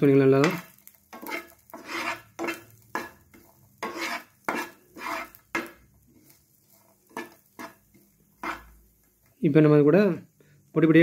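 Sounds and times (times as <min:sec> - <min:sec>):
wooden spatula scraping frying pan: 0:00.0 - 0:09.4.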